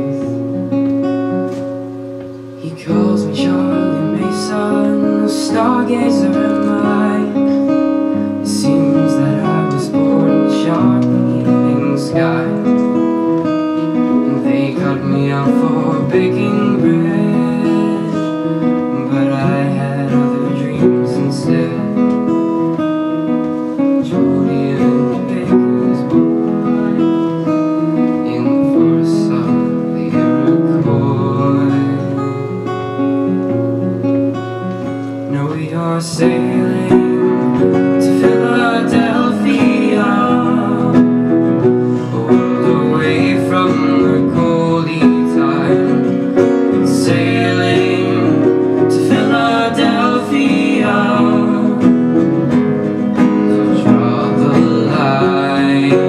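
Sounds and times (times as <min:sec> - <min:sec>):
acoustic guitar strumming chords: 0:00.0 - 0:56.0
grand piano: 0:00.0 - 0:56.0.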